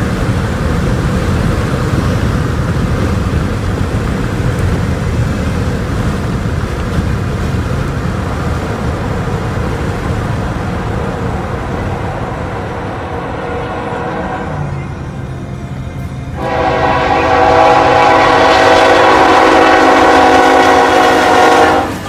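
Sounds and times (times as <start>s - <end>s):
motor vehicle rumble: 0.0s - 22.0s.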